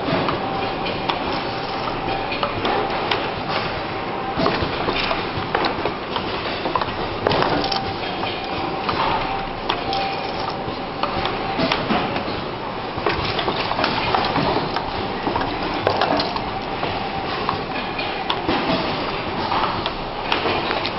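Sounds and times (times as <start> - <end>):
machine hum and hiss: 0.0 - 20.9
mechanical clicks and clacks: 0.0 - 20.9.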